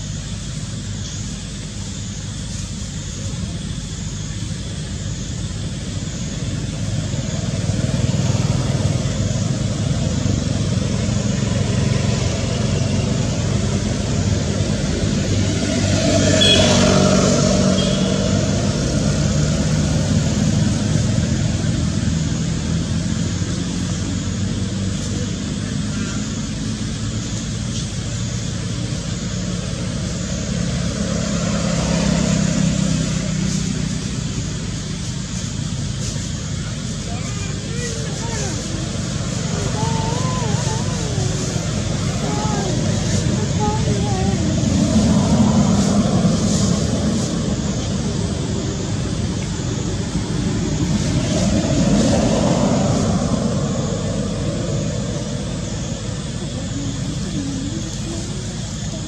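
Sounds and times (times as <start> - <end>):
road traffic rumbling: 0.0 - 59.0
vehicle passing: 6.3 - 25.9, 29.2 - 34.9, 36.0 - 59.0.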